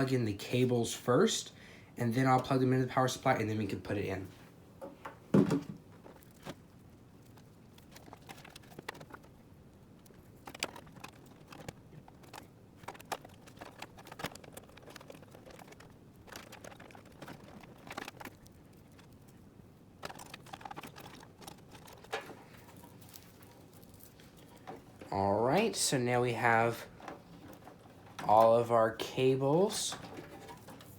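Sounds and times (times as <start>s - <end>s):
cables rustling: 5.8s - 30.9s.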